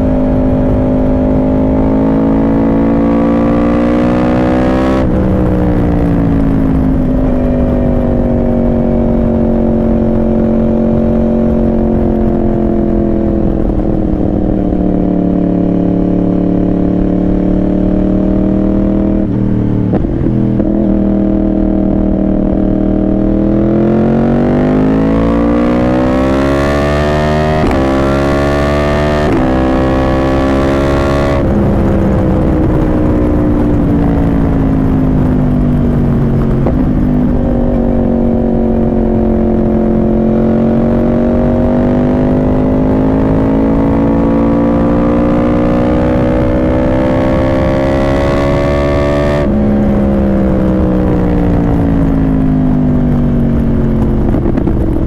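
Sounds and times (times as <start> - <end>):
sportbike engine accelerating: 0.0 - 55.0.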